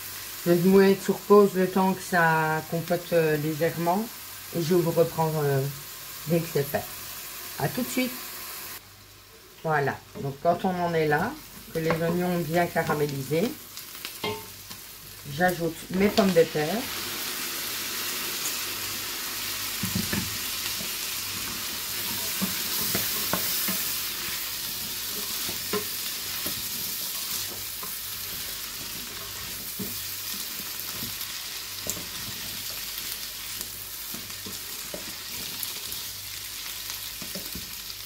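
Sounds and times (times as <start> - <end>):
potatoes sizzling in a pot: 0.0 - 38.0.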